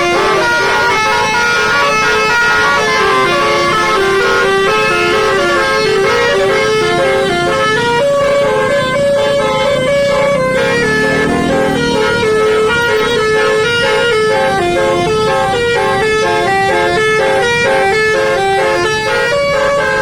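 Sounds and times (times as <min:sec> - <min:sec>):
multi-tone air horn melody: 0:00.0 - 0:20.0.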